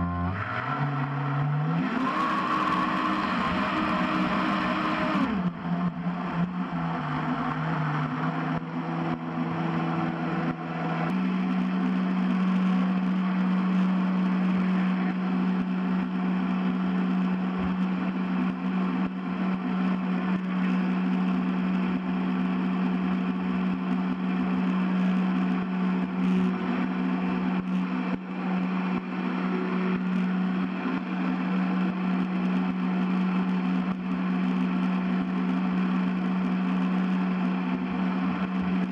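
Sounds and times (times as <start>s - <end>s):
boat electric motor whining: 0.0s - 38.9s.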